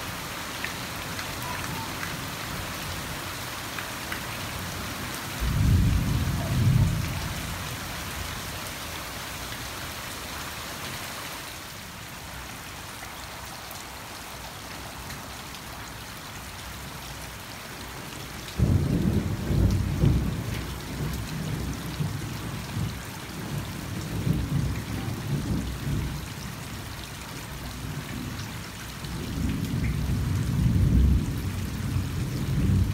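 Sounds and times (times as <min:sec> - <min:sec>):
rain on leaves and lawn: 0:00.0 - 0:32.9.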